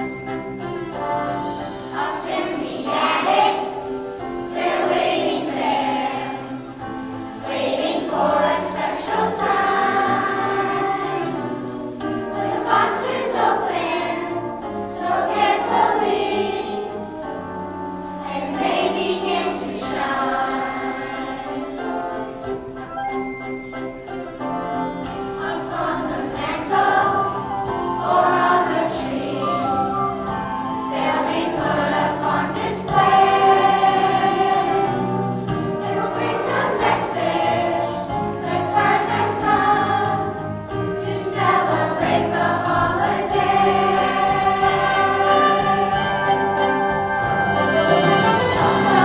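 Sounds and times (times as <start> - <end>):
children's choir singing: 0.0 - 22.7, 24.6 - 49.0
instrumental accompaniment: 0.0 - 49.0.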